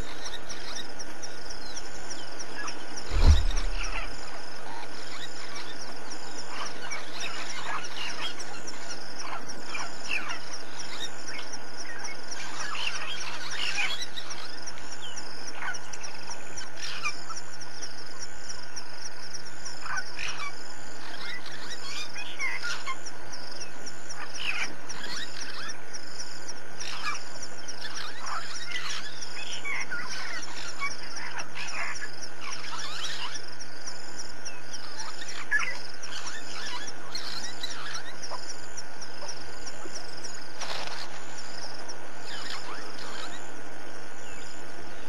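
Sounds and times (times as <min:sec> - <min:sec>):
birds chirping: 0:00.0 - 0:45.0
faint low hum: 0:00.0 - 0:45.0
insect trill: 0:00.0 - 0:45.0.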